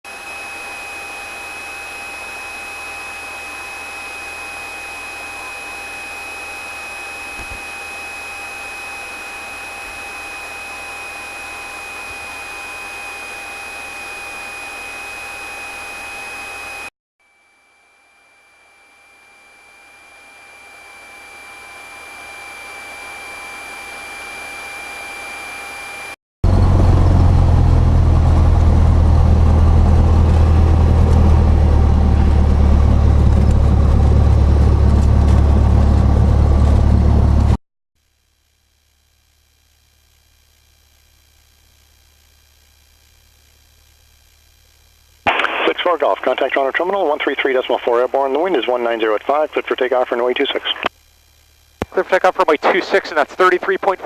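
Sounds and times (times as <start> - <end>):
piston aircraft engine drone: 0.1 - 16.9, 19.6 - 37.6, 44.7 - 54.0
high whine tones: 0.1 - 37.6, 42.7 - 54.0.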